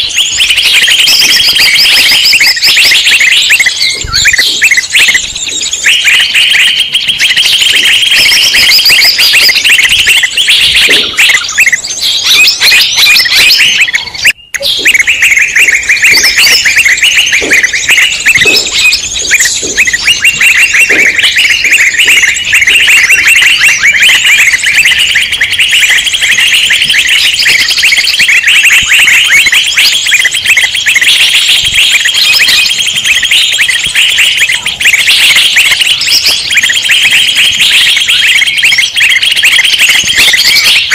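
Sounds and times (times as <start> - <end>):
flock of songbirds chirping: 0.0 - 40.9.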